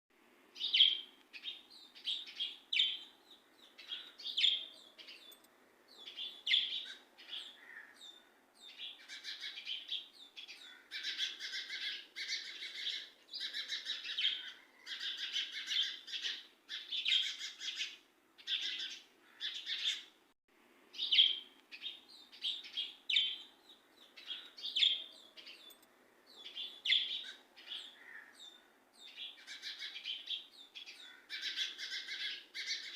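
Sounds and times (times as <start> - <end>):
birds chirping: 0.5 - 20.2, 20.9 - 32.9.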